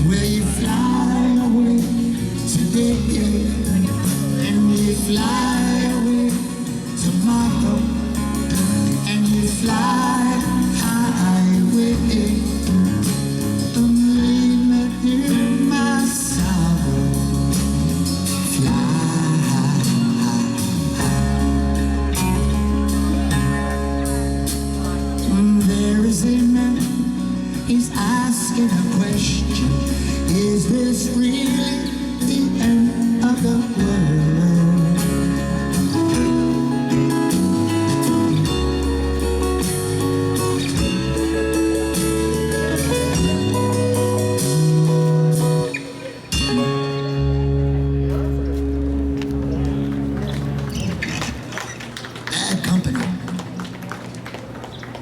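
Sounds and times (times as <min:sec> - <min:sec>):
person singing: 0:00.0 - 0:24.0, 0:24.8 - 0:48.4
guitar: 0:00.0 - 0:55.0.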